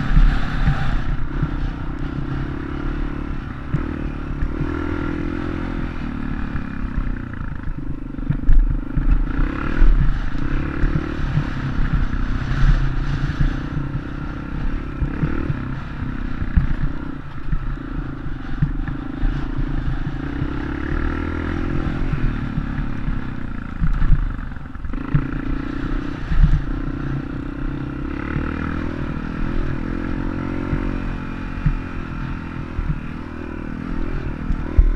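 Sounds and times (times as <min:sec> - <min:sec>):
dirt bike engine running: 0:00.0 - 0:34.9.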